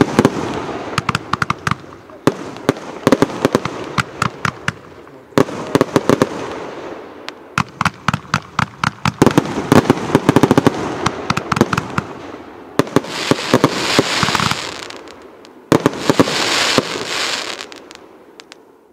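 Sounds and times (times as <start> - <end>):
fireworks hissing: 0.0 - 18.6
fireworks shots and bursts: 0.0 - 18.6.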